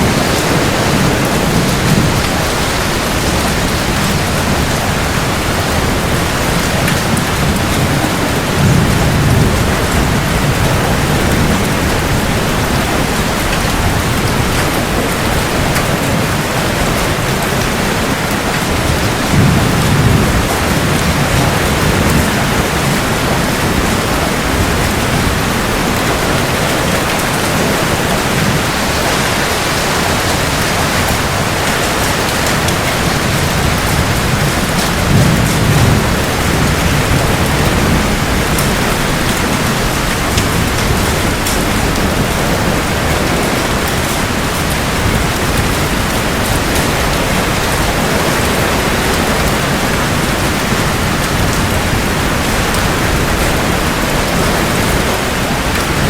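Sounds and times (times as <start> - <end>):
heavy rain falling: 0.0 - 56.0
low rumble of thunder: 0.0 - 56.0.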